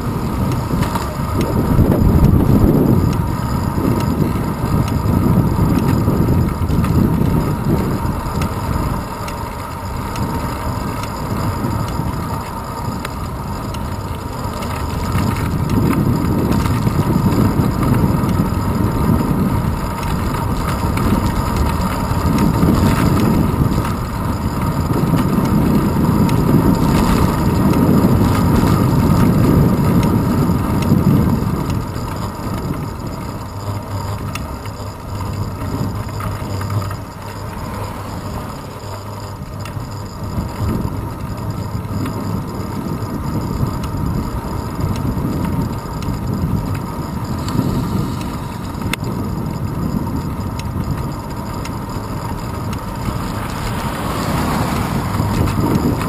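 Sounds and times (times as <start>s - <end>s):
bicycle road noise: 0.0s - 56.0s
wind rumble: 0.0s - 56.0s.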